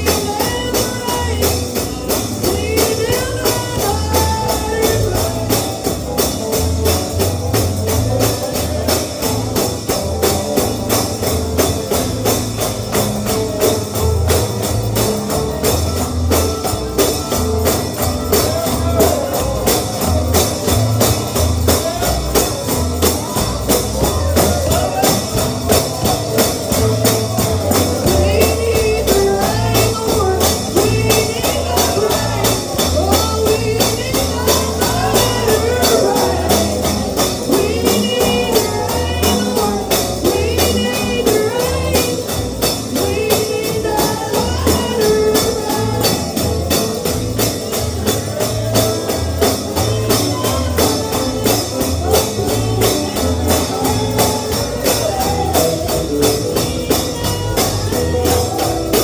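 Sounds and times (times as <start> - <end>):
bluegrass gospel music: 0.0 - 59.0
tambourine shaken: 0.0 - 59.0.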